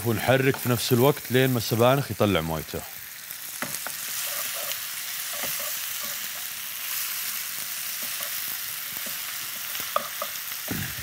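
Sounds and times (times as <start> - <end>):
vegetables sizzling in frying pan: 0.0 - 11.0.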